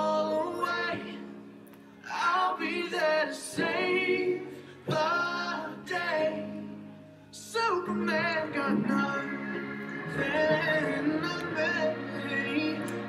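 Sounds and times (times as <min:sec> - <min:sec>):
voices singing a song: 0:00.0 - 0:01.3, 0:02.1 - 0:06.8, 0:07.4 - 0:13.0.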